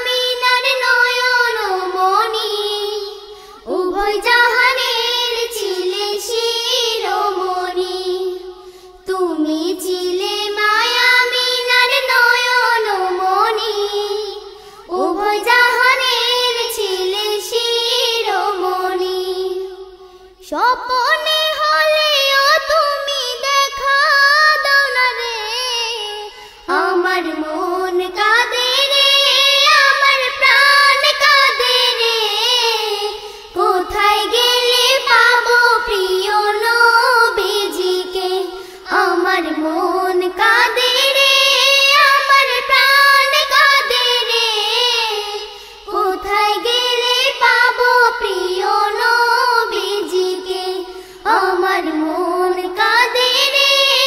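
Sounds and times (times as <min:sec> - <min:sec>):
girl singing through microphone: 0:00.0 - 0:54.0.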